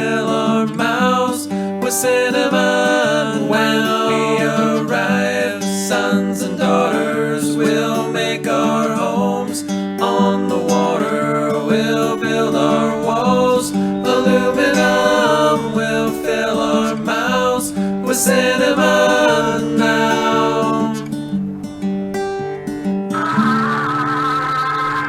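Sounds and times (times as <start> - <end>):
strummed acoustic guitar song: 0.0 - 25.0.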